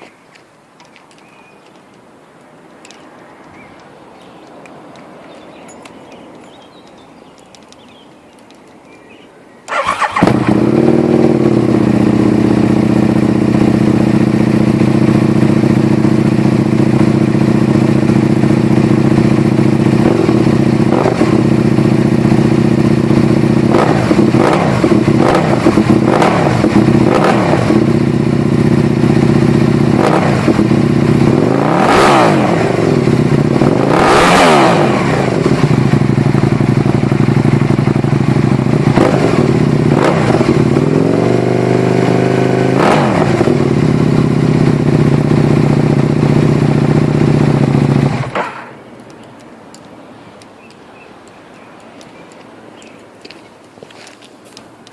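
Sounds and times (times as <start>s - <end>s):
motorcycle engine idling and revving: 2.8s - 49.9s.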